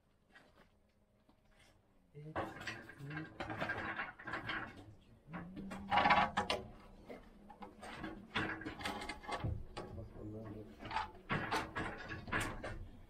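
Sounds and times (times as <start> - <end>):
timber and tools clattering: 2.3 - 13.0.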